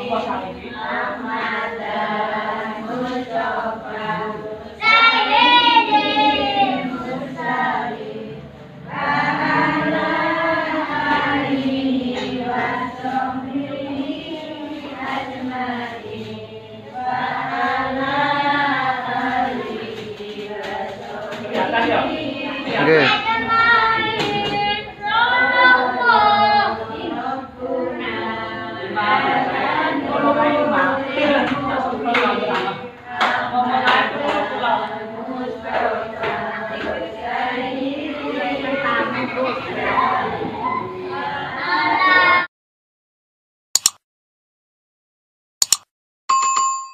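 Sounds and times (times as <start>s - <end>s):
group singing a slow chant: 0.0s - 42.5s.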